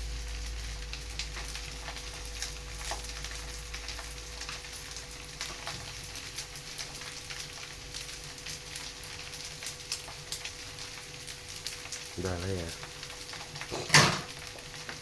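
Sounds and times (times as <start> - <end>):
rice sizzling in a pan: 0.0 - 15.0.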